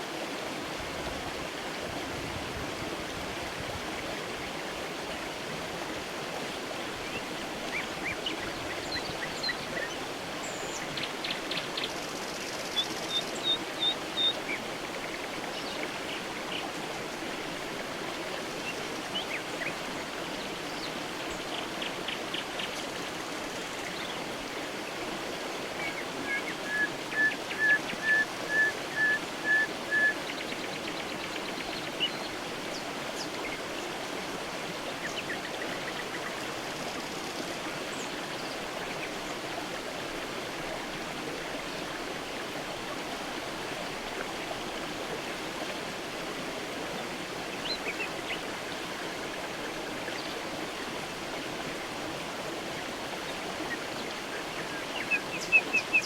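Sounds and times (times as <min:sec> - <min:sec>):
creek running: 0:00.0 - 0:56.0.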